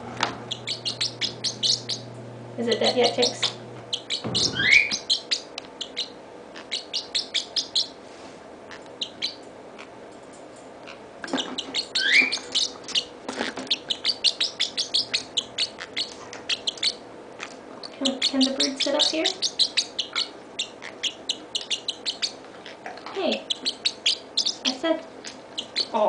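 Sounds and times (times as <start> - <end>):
parrotlet chirping: 0.5 - 2.1, 2.8 - 8.0, 8.7 - 10.0, 10.8 - 26.0.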